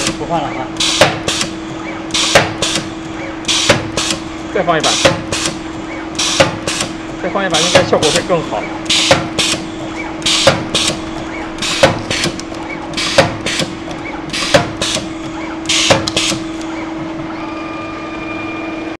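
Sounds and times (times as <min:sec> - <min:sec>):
stamp machine clack and hiss: 0:00.0 - 0:16.7
machine hum: 0:00.0 - 0:19.0.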